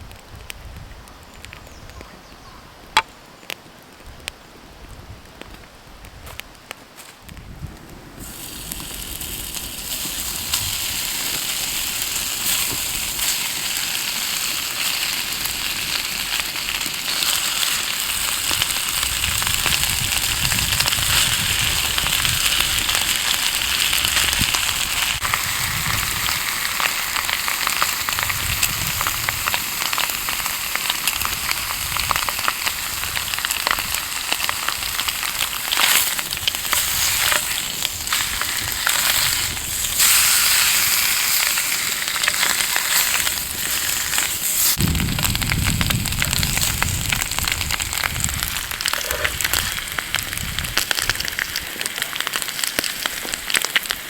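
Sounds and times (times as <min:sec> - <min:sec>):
wood fire crackling pops: 0:05.4 - 0:54.0
food sizzling: 0:08.2 - 0:54.0.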